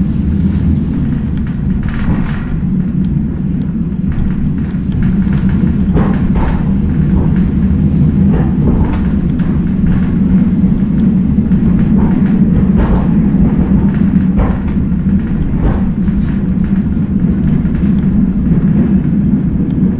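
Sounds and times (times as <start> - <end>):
diesel train rumble: 0.0 - 19.9
running gear clicks and knocks: 1.0 - 19.9.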